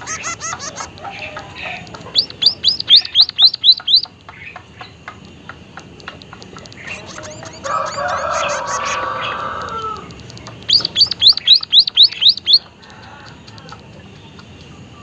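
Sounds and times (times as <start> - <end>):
munia singing: 0.0 - 4.2, 5.8 - 15.0.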